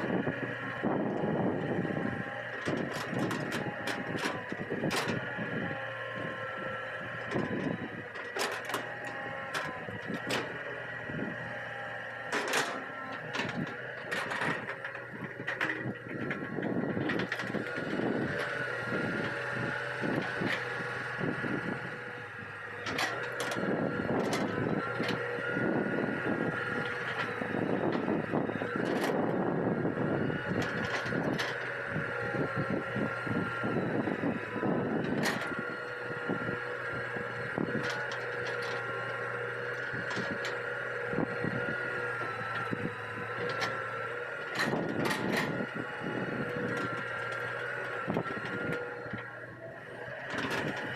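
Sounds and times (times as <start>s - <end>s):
excavator diesel engine running: 0.0s - 50.9s
machine clanks and scraping: 1.0s - 22.1s, 22.8s - 29.5s, 30.5s - 50.9s.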